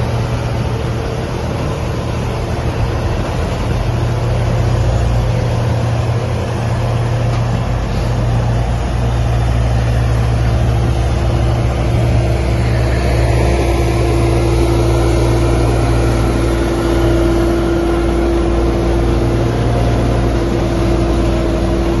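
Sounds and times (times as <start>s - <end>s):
diesel machinery engine drone: 0.0s - 22.0s
high-pitched whine: 0.0s - 22.0s.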